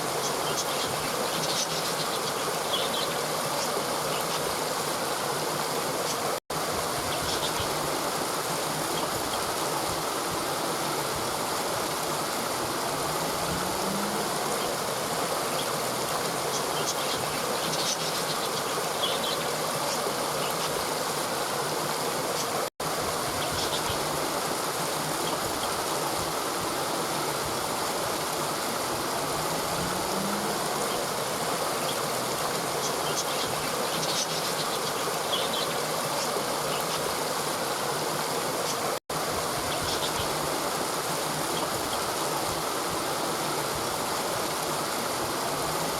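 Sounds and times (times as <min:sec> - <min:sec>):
river flowing over rocks: 0:00.0 - 0:45.9.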